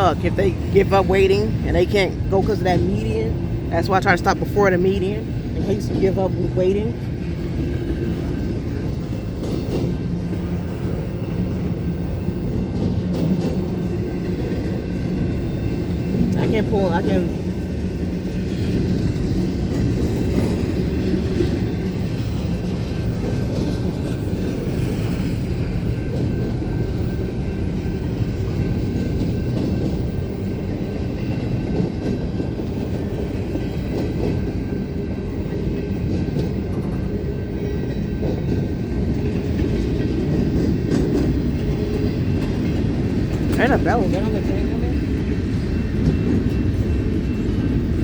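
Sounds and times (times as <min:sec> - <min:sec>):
train wheels rumbling and clacking: 0:00.0 - 0:48.0.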